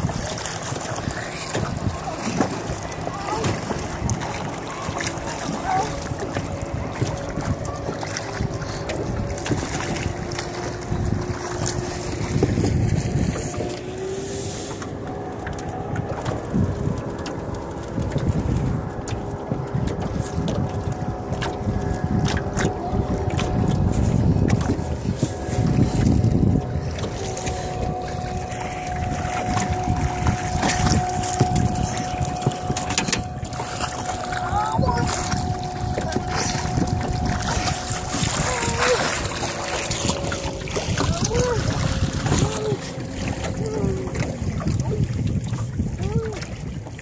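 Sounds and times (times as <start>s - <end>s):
motorboat engine hum: 0.0s - 47.0s
water splashing and lapping: 0.0s - 47.0s
wind buffeting microphone: 0.0s - 47.0s.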